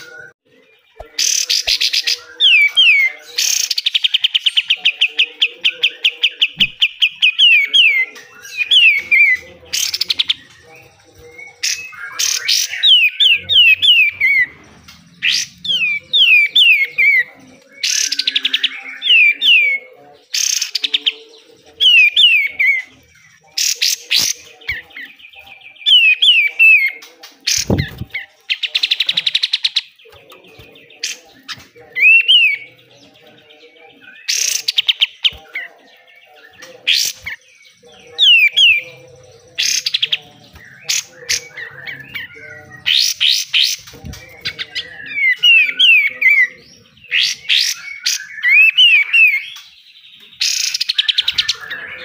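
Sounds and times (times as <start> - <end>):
songbird harsh rattling chatter: 1.2 - 52.0.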